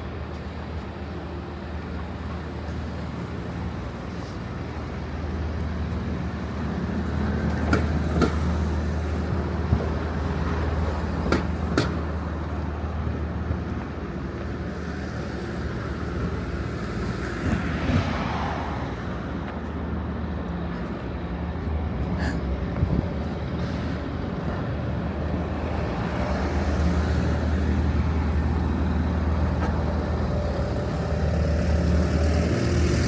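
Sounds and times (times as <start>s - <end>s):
street noise: 0.0s - 33.0s.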